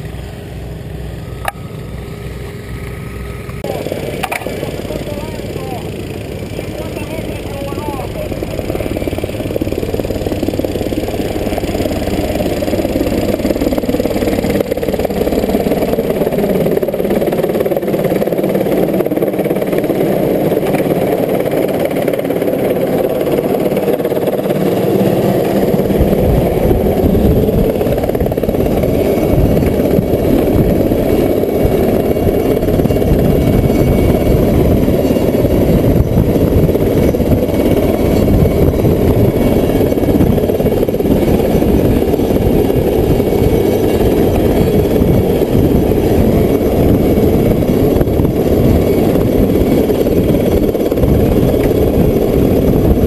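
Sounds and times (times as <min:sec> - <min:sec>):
helicopter rotor beating: 0:00.0 - 0:53.0.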